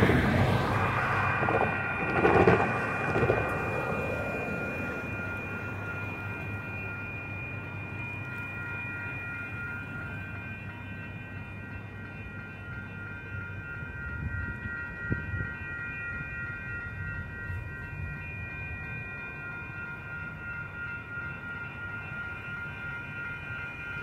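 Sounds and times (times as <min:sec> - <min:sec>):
crossing warning bell ringing: 0:00.0 - 0:24.0
low traffic rumble: 0:00.0 - 0:24.0.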